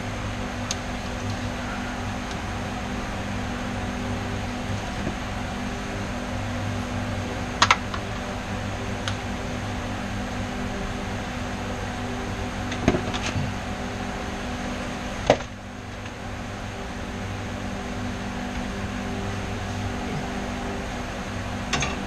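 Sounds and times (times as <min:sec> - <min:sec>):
fan-like machine hum: 0:00.0 - 0:22.0.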